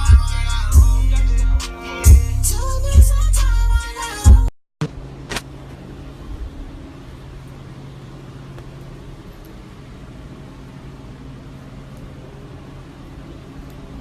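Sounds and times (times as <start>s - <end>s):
low mechanical hum and rumble: 0.0s - 14.0s.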